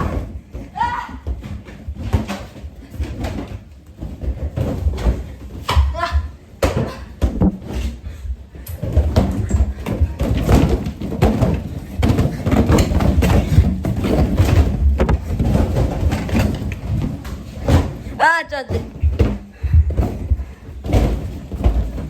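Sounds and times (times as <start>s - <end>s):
balloons thumping and bumping: 0.0s - 22.0s.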